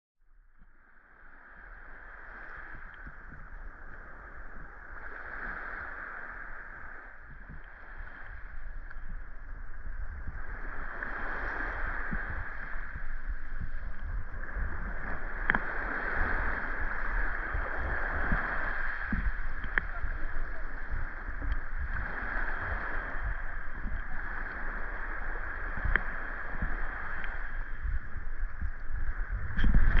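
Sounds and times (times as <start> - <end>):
waves washing and splashing: 0.5 - 30.0
wind buffeting microphone: 1.7 - 30.0.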